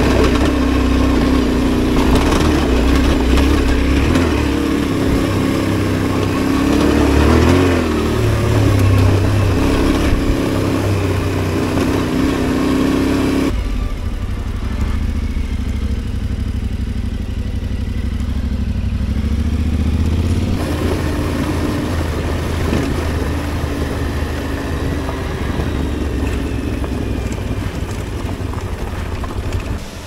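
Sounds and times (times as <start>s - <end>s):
motorcycle engine drone: 0.0s - 30.0s.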